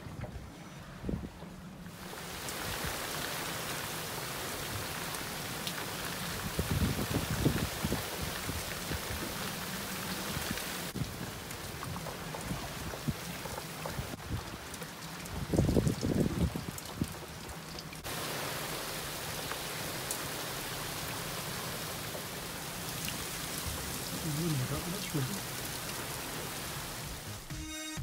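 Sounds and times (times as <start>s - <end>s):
heavy rain on sea and boat: 0.0s - 27.5s.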